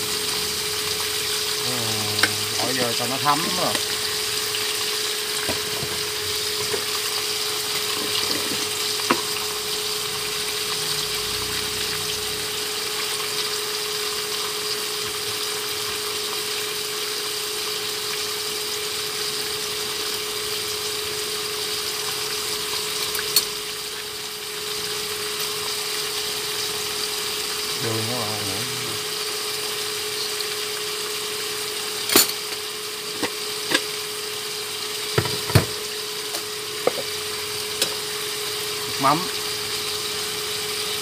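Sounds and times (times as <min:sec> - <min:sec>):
meat sizzling in a frying pan: 0:00.0 - 0:41.0.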